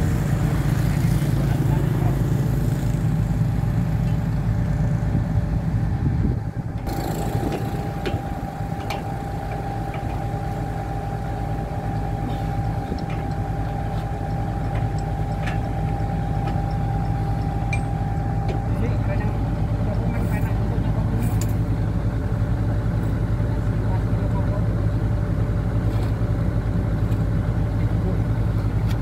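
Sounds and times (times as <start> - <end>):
diesel engine idling: 0.0 - 29.0
steady higher hum: 0.0 - 29.0.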